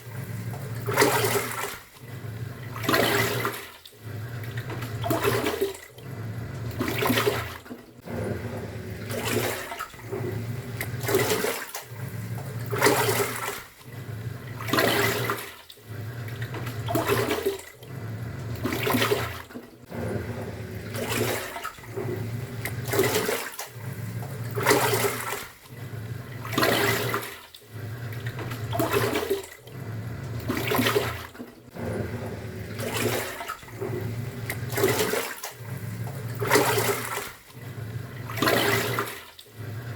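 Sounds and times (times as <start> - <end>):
washing machine motor humming: 0.0 - 39.9
water sloshing: 0.0 - 39.9.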